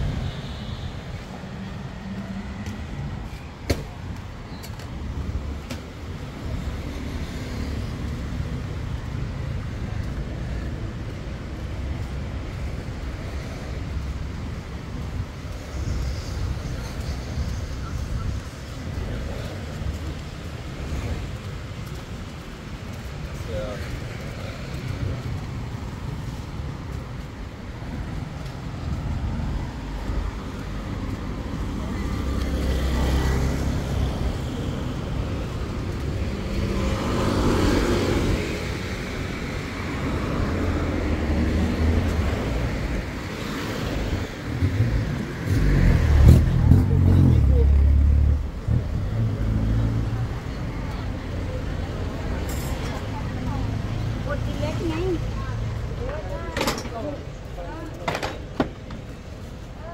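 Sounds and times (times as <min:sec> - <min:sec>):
passing cars and motorbikes: 0:00.0 - 0:59.9
road traffic rumble: 0:00.0 - 0:59.9.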